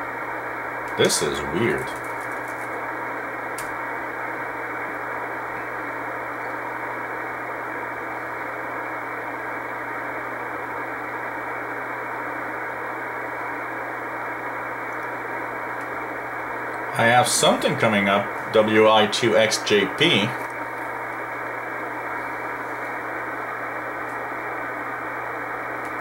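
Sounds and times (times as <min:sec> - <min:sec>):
low steady hum: 0:00.0 - 0:26.0
shortwave radio hiss: 0:00.0 - 0:26.0.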